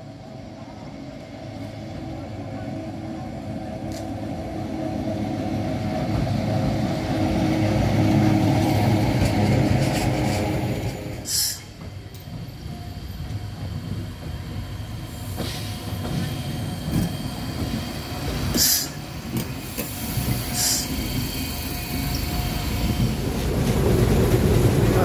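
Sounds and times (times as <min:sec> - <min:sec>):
locomotive rumbling past: 0:00.0 - 0:25.0.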